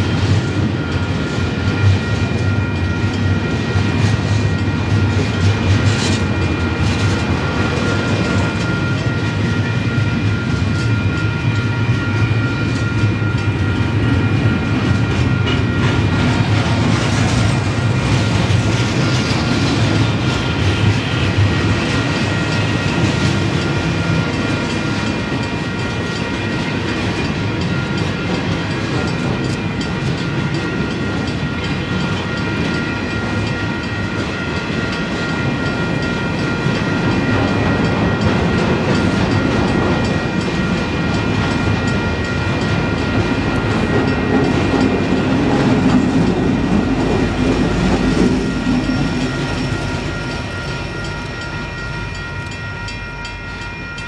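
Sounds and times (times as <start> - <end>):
diesel locomotive passing: 0.0 - 54.0
freight train wheels clattering: 0.0 - 54.0.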